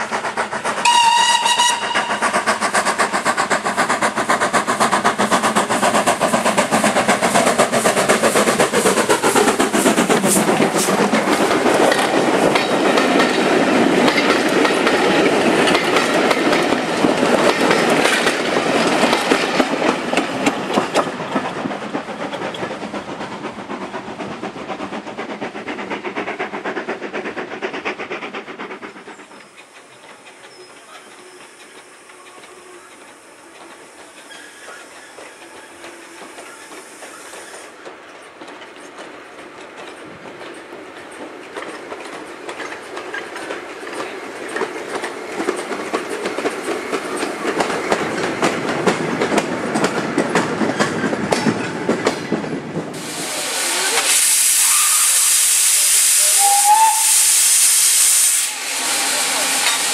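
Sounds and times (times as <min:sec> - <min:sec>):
train wheels clattering over rail joints: 0:00.0 - 0:53.1, 0:59.2 - 0:59.9
train running noise: 0:00.0 - 0:59.9.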